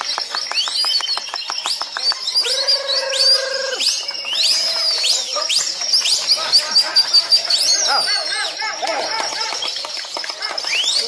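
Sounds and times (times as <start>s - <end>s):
chorus of caged birds chirping: 0.0s - 11.0s.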